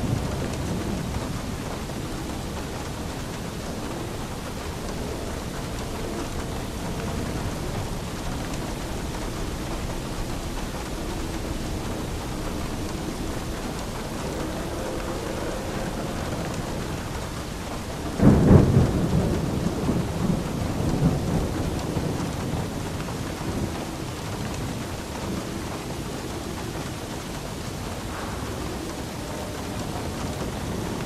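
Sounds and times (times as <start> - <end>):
steady rain: 0.0 - 31.0
thunder clap rumbling: 0.0 - 31.0.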